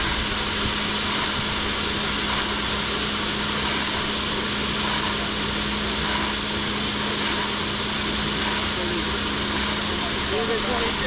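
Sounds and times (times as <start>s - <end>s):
fire pump humming: 0.0s - 11.0s
water discharge rushing: 0.0s - 11.0s.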